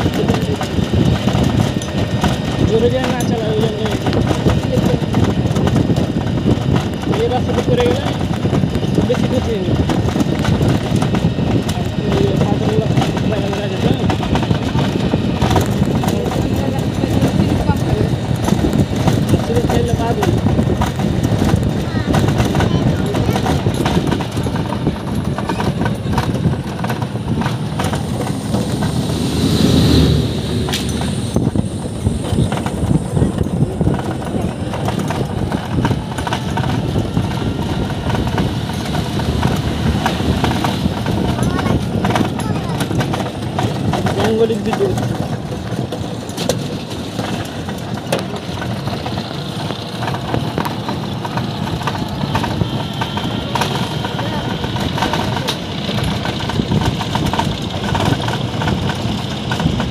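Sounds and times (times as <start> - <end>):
auto-rickshaw engine running: 0.0 - 59.9
vehicle body rattling and clicking: 0.0 - 59.9.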